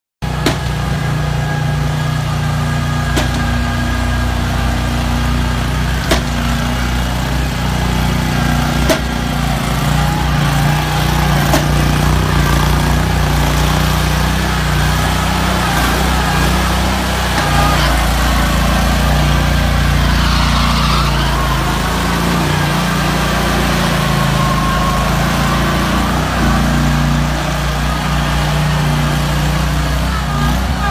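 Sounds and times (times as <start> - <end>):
excavator and dumper engines running: 0.2 - 30.9.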